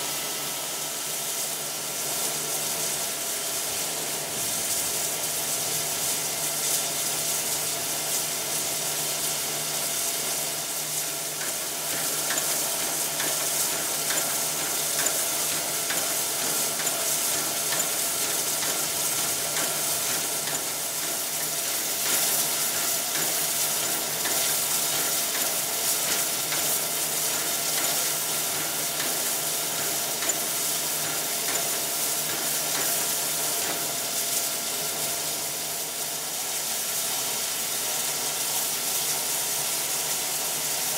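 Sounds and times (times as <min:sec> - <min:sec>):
steam hissing and sputtering: 0:00.0 - 0:40.9.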